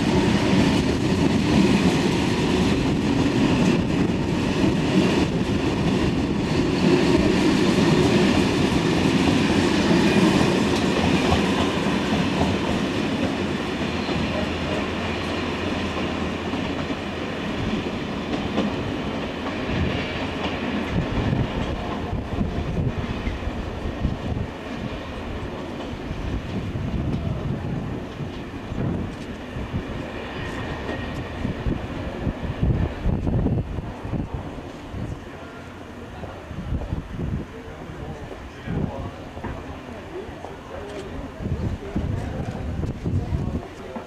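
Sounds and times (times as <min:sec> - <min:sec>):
train wheels rolling on rails: 0:00.0 - 0:44.0.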